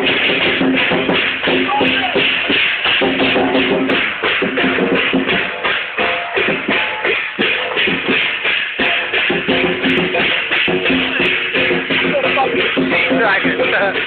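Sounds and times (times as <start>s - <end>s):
drum-led music: 0.0s - 14.0s.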